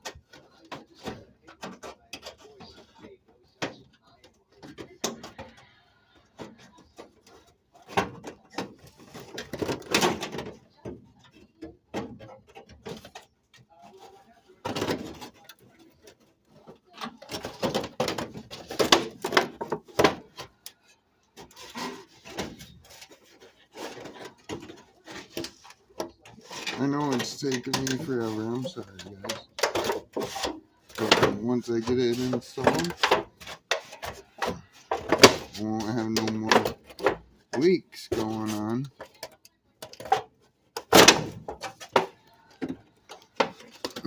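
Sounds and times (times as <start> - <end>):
vent knocking scraping and rattling: 0.0 - 5.6, 6.4 - 20.7, 21.3 - 44.0.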